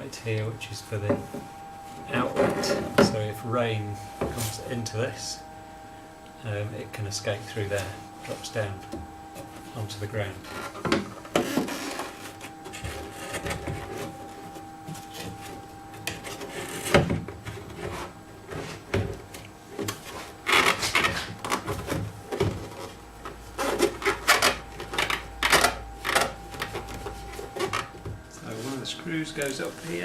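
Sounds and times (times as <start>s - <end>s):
car body parts rubbing and scraping: 1.1s - 3.3s, 7.6s - 30.0s.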